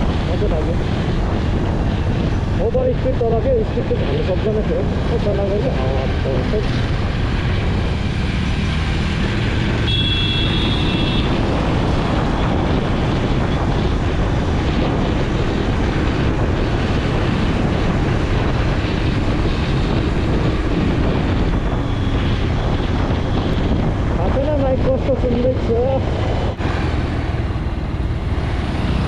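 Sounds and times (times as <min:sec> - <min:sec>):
motorcycle engine running: 0:00.0 - 0:29.0
road and wind noise: 0:00.0 - 0:29.0.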